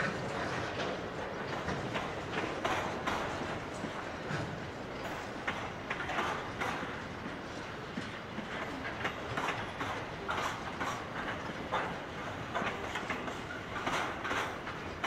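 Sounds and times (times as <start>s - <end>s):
train rumble: 0.0s - 15.0s
train wheels clanking on rails: 0.0s - 15.0s.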